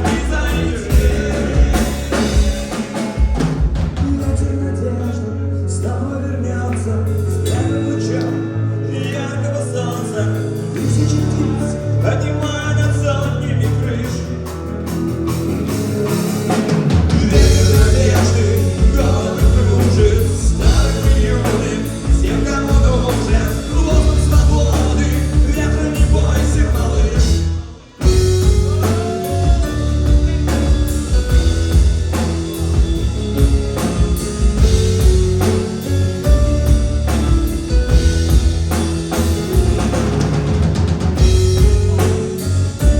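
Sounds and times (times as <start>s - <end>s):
drums and bass: 0.0s - 42.9s
rock band playing: 0.0s - 42.9s.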